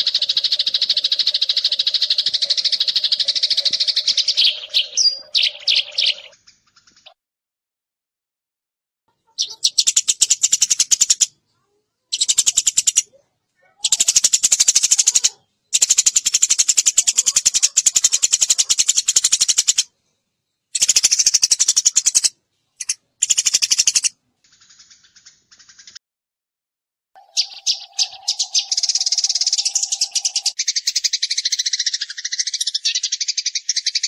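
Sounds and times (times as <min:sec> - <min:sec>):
sparrow chirping: 0:00.0 - 0:07.2, 0:09.2 - 0:26.0, 0:27.2 - 0:34.0.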